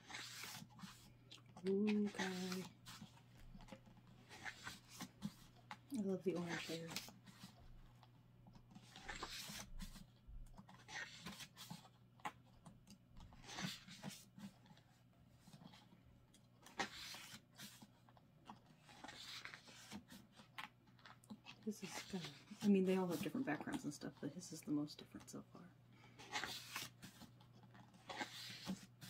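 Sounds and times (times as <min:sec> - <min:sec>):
pages being turned: 0:00.0 - 0:07.6, 0:08.7 - 0:12.6, 0:13.2 - 0:14.8, 0:16.6 - 0:24.0, 0:26.2 - 0:29.0.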